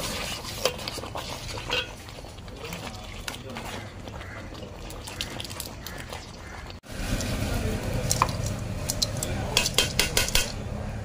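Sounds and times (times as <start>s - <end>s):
ladle stirring in metal pan: 0.0s - 10.6s.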